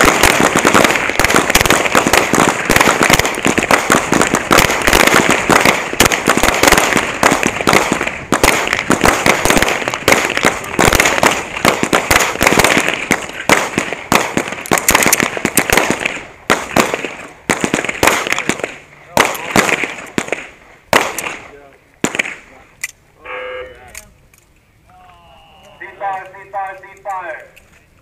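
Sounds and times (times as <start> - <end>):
pistol gunfire: 0.0 - 22.4.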